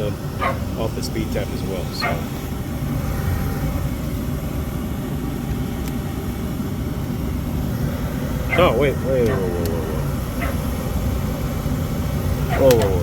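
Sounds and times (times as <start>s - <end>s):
hvac unit humming: 0.0s - 13.0s.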